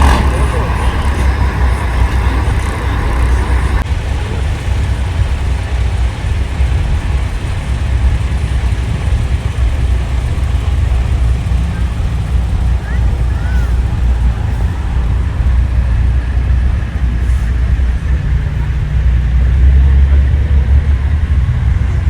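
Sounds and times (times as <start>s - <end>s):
heavy diesel trucks rumbling: 0.0s - 22.0s
road noise: 0.0s - 22.0s.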